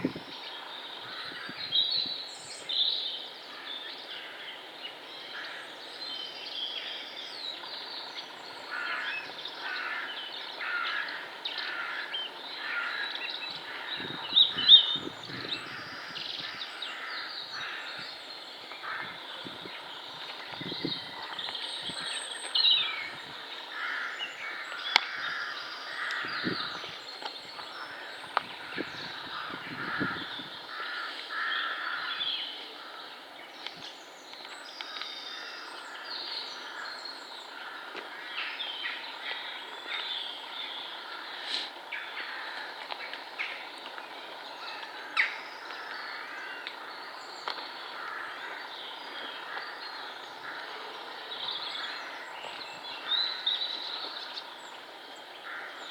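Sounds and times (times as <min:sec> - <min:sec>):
woodland birds singing: 0:00.0 - 0:55.9.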